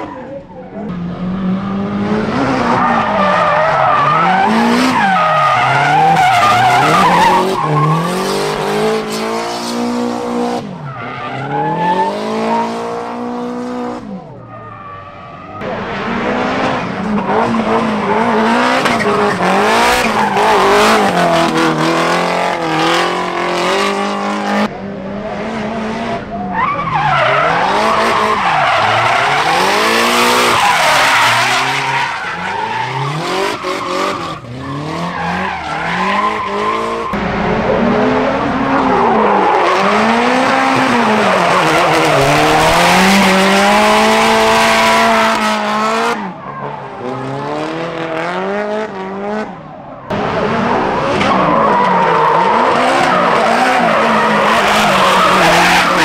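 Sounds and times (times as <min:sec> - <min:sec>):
car engines revving hard: 0:00.0 - 0:14.5, 0:15.6 - 0:56.0.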